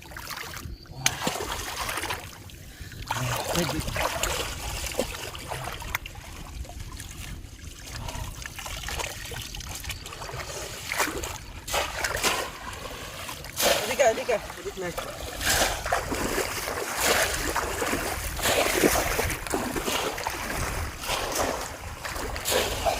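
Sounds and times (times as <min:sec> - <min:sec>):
river water splashing: 0:00.0 - 0:22.9.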